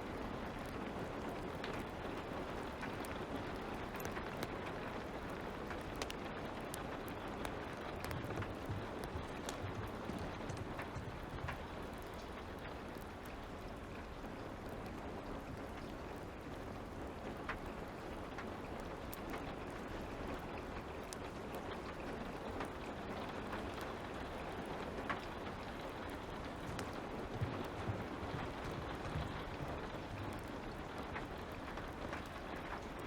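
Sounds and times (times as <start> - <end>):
fire crackling: 0.0 - 33.0
light rain falling: 0.0 - 33.0.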